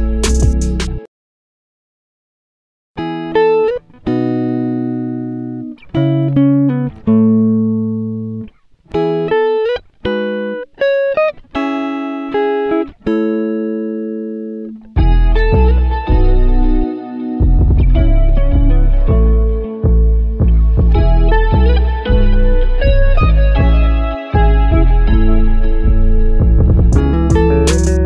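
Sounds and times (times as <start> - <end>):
plucked string melody: 0.0 - 1.1, 3.0 - 28.0.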